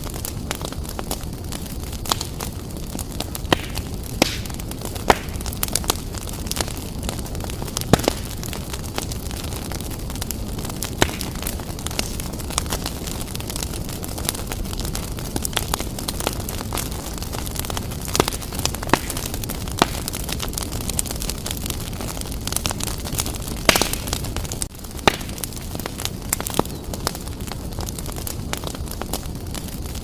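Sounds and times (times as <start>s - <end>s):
fire crackling and popping: 0.0s - 30.0s
roar of fire flames: 0.0s - 30.0s.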